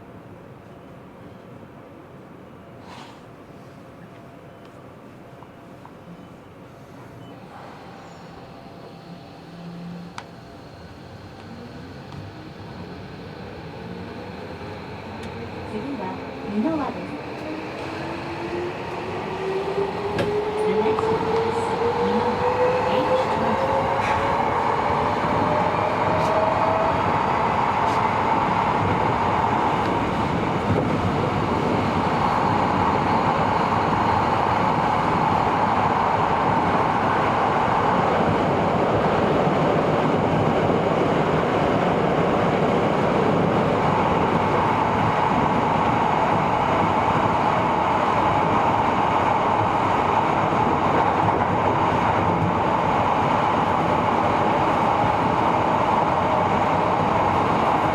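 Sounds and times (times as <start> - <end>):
train running noise in tunnel: 0.0 - 57.9.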